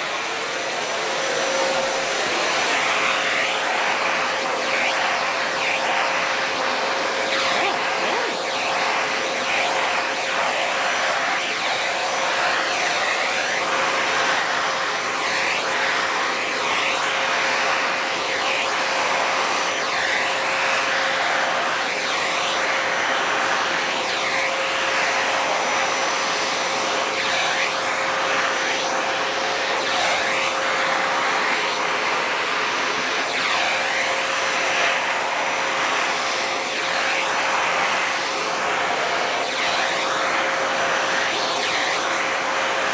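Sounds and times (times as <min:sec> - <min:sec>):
vacuum cleaner whining: 0:00.0 - 0:42.9.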